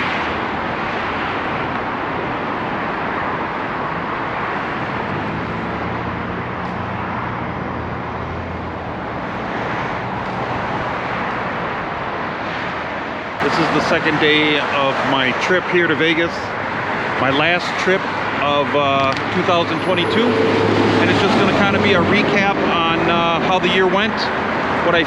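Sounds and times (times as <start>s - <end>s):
passing cars: 0.0s - 25.0s
vehicle engine hum: 0.0s - 25.0s.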